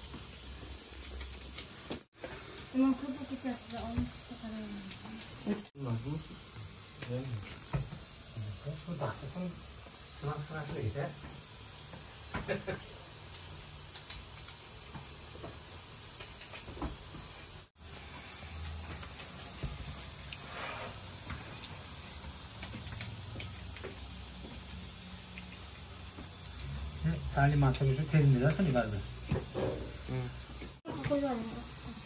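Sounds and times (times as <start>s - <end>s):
high-pitched hiss: 0.0s - 32.0s.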